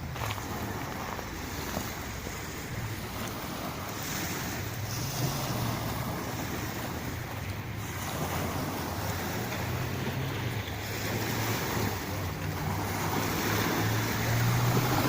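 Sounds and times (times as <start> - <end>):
sea waves washing on shore: 0.0 - 15.0
wind rumbling on microphone: 0.0 - 15.0.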